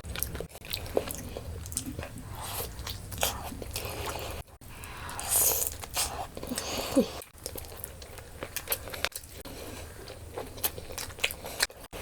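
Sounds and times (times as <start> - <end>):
biting and chewing food: 0.0 - 12.0.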